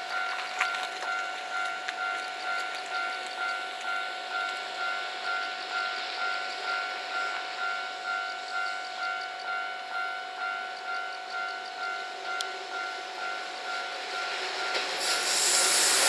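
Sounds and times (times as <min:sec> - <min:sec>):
level crossing alarm dinging: 0:00.0 - 0:16.0.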